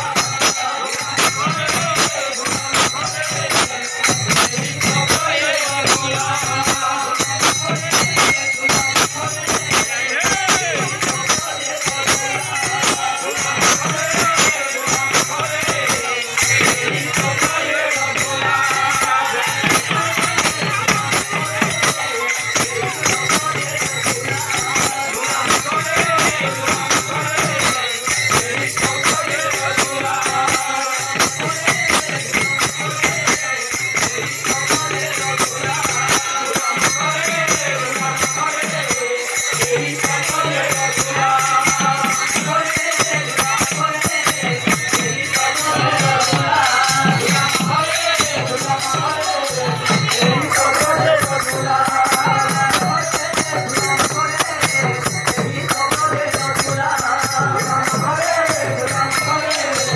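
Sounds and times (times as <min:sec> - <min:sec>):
group singing: 0:00.0 - 0:59.9
hand-played barrel drums: 0:00.0 - 0:59.9.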